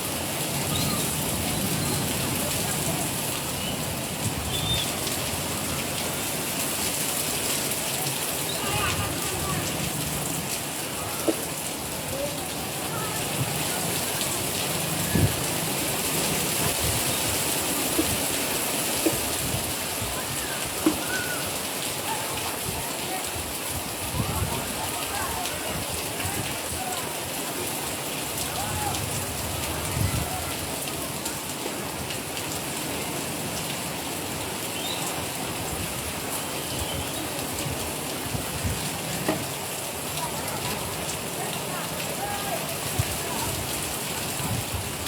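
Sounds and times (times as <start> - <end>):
steady rain hiss: 0.0 - 45.0.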